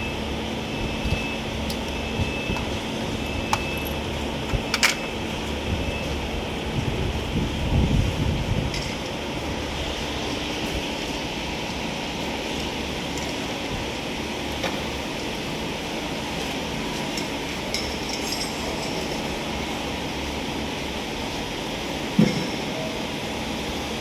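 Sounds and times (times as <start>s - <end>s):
machine shop background noise: 0.0s - 24.0s.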